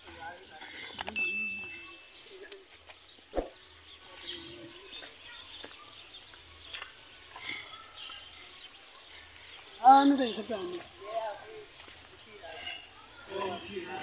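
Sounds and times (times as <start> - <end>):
birds chirping: 0.0 - 14.0
footsteps on dry dirt: 2.1 - 14.0.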